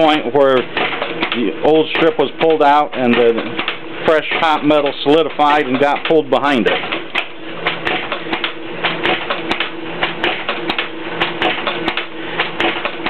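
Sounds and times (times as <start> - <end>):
machine hum: 0.0 - 13.0
rhythmic thumping knocks: 0.0 - 13.0.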